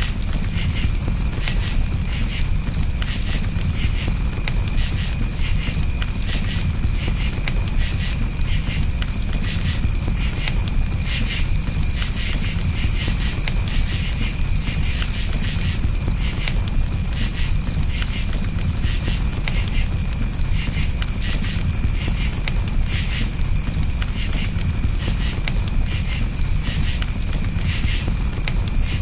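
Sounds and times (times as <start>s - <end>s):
crackling campfire: 0.0s - 29.0s
crickets chirping: 0.0s - 29.0s.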